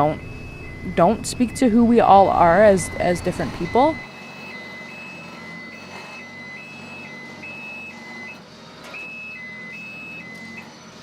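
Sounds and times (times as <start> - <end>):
engine running: 0.0 - 11.0
two-tone vehicle warning alarm: 0.0 - 11.0.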